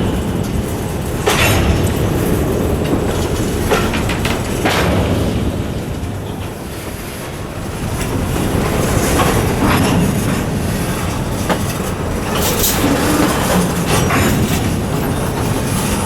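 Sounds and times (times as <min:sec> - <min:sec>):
freight train rumbling: 0:00.0 - 0:16.0
wheels clanking and knocking: 0:00.0 - 0:16.0.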